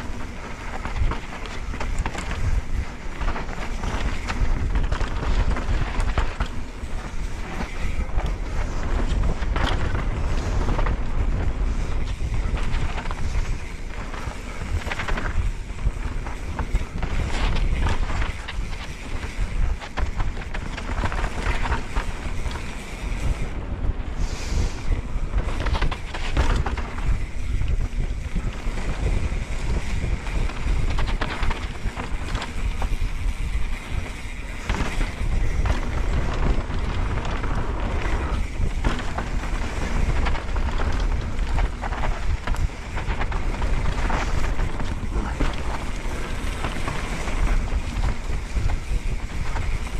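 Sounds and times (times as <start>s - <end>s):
bike clattering over rough ground: 0.0s - 49.9s
tyres rumbling on dirt: 0.0s - 49.9s
wind buffeting microphone: 0.0s - 49.9s.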